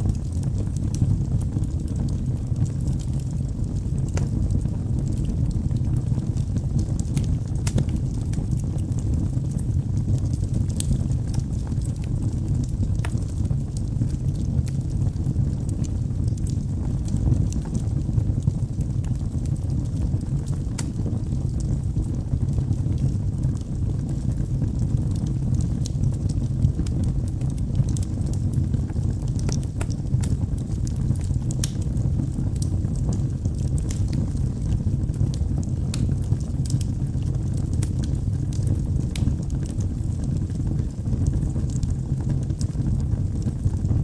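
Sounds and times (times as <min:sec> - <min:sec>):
fire crackles and pops: 0:00.0 - 0:44.0
low rumble of flames: 0:00.0 - 0:44.0.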